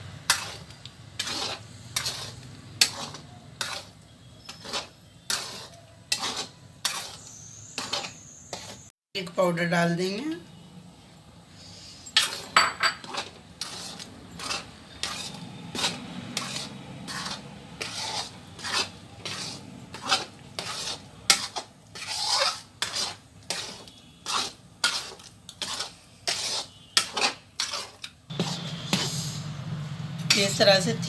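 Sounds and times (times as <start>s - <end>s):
metal spatula scraping steel pan: 0.2s - 8.9s, 11.8s - 29.5s.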